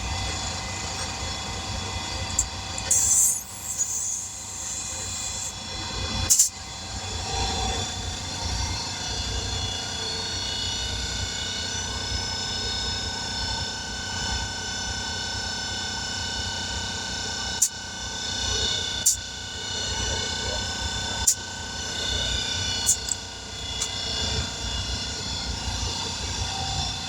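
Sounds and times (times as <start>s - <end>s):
machine rumble with whining tones: 0.0s - 27.0s.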